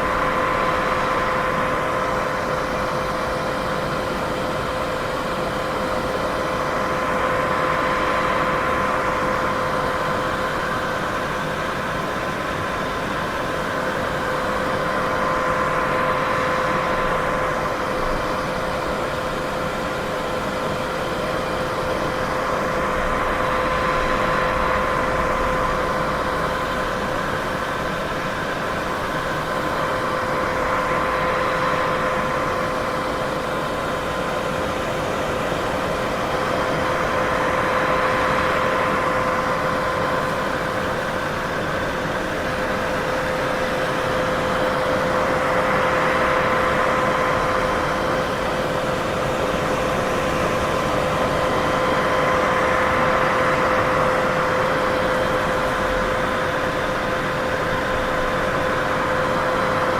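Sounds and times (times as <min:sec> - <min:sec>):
constant hum: 0:00.0 - 0:59.9.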